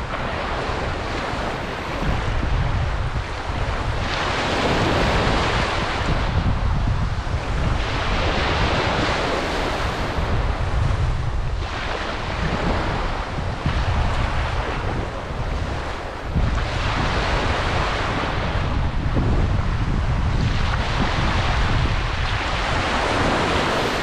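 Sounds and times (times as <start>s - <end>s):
small waves washing over sand: 0.0s - 24.0s
wind rumbling on microphone: 0.0s - 24.0s.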